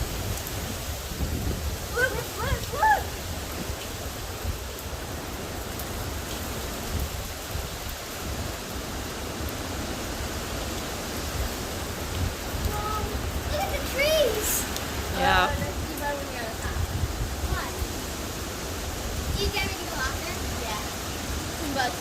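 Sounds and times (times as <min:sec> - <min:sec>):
wind and rain rushing: 0:00.0 - 0:22.0
wind buffeting microphone: 0:00.0 - 0:22.0.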